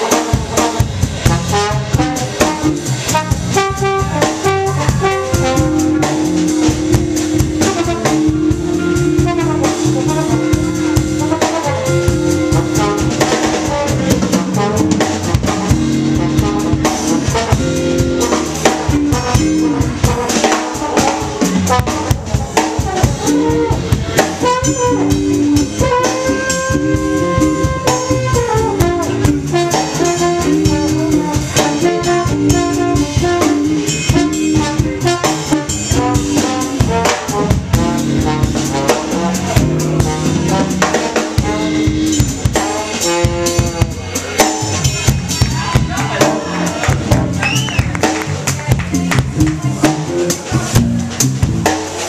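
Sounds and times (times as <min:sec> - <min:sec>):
drum kit with cymbals: 0:00.0 - 0:52.0
electric bass: 0:00.0 - 0:52.0
keyboards: 0:00.0 - 0:52.0
electric guitar: 0:02.3 - 0:42.7, 0:44.1 - 0:52.0.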